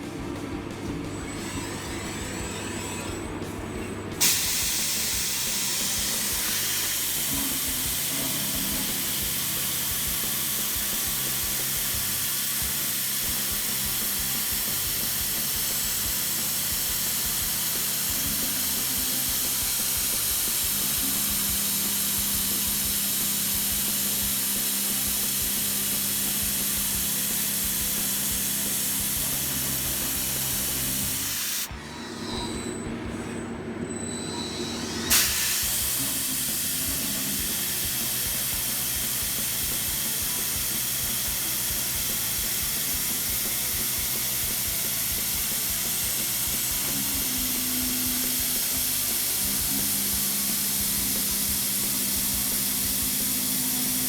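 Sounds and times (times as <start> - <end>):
low machine hum: 0.0 - 54.0
machine hissing on steel: 4.2 - 54.0.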